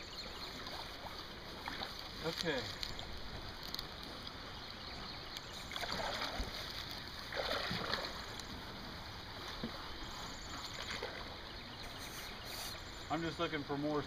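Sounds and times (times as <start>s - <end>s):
water sloshing around wading legs: 0.0s - 13.4s.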